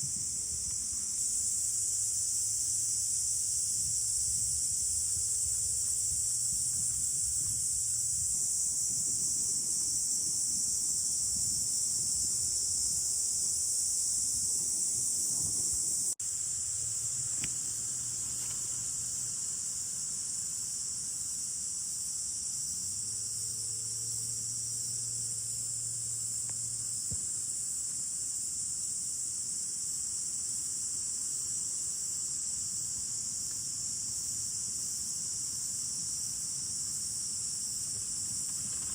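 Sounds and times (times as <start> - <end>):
insect chorus chirring: 0.0 - 38.9.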